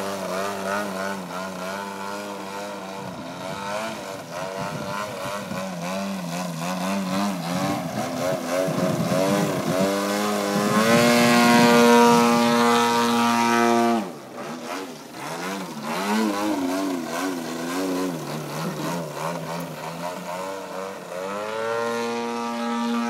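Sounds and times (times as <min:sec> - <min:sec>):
model airplane engine and propeller: 0:00.0 - 0:23.0.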